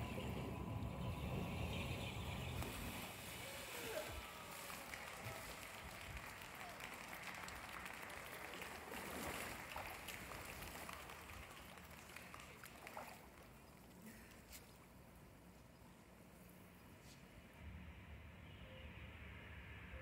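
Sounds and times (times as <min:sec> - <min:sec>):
pool water splashing: 0:00.0 - 0:16.8.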